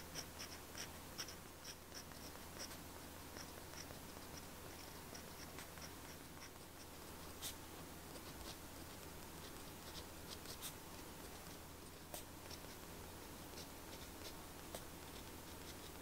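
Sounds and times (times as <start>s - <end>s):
pen nib scratching paper: 0.0s - 16.0s.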